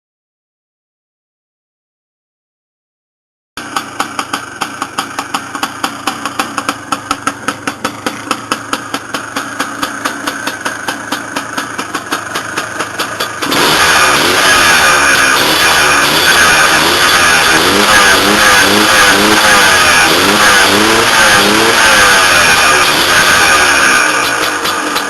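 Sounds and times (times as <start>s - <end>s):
exhaust popping: 3.6s - 25.0s
two-stroke engine idling: 3.6s - 25.0s.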